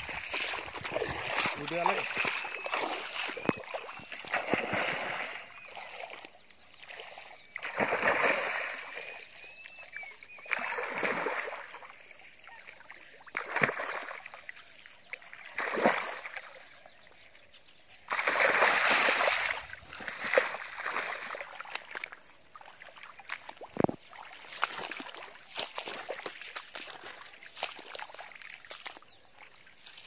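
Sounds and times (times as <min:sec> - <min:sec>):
fish splashing in water: 0:00.0 - 0:14.5, 0:15.2 - 0:16.6, 0:18.1 - 0:29.0.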